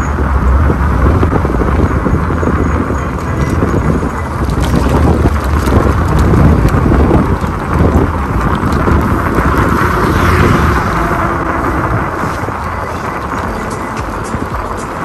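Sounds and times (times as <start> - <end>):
road rumble from bike: 0.0 - 15.0
wind buffeting microphone: 0.0 - 15.0.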